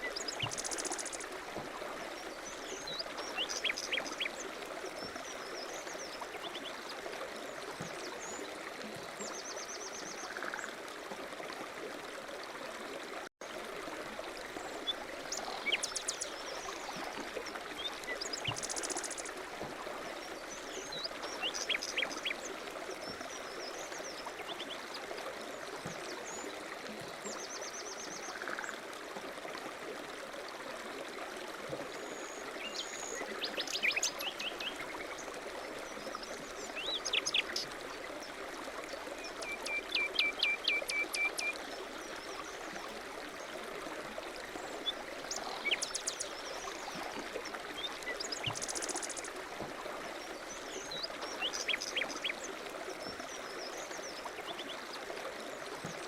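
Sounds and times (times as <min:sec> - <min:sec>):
running water stream: 0:00.0 - 0:56.0.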